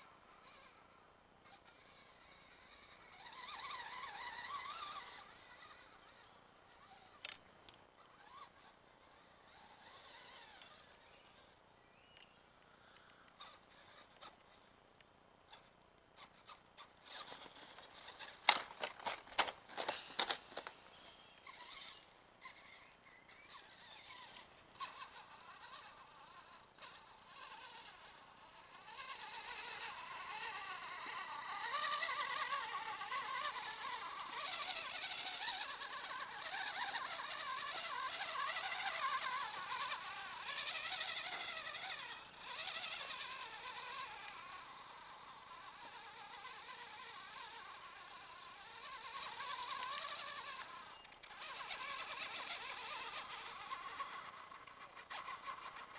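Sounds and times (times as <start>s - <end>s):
toy truck electric motor whining: 0.0s - 11.5s, 12.8s - 14.7s, 15.5s - 55.9s.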